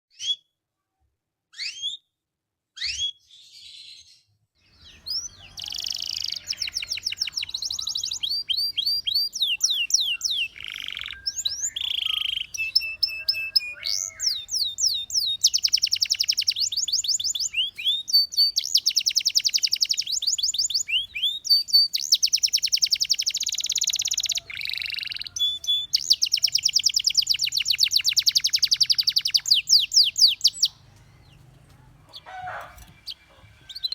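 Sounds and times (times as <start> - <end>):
canary singing trills: 2.8 - 33.9.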